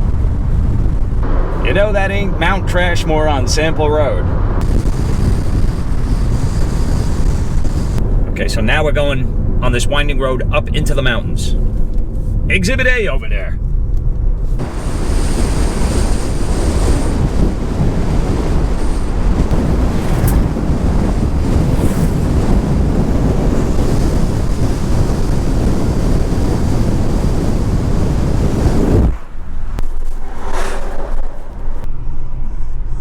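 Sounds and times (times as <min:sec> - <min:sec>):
wind buffeting microphone: 0:00.0 - 0:12.7, 0:13.6 - 0:33.0.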